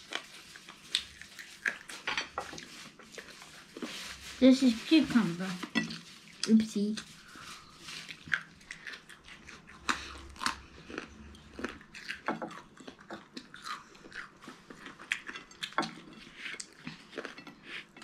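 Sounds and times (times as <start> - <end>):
chewing crunchy food: 0.0 - 4.2, 5.6 - 18.0.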